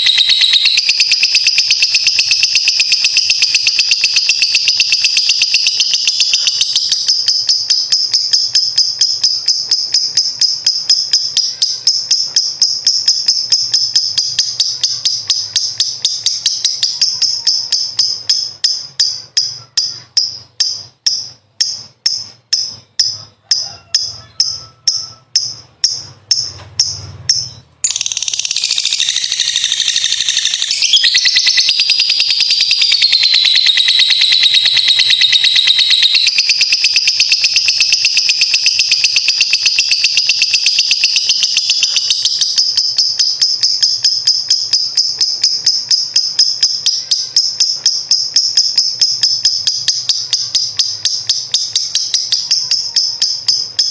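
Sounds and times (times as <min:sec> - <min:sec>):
lovebird chattering trill: 0:00.0 - 0:53.9.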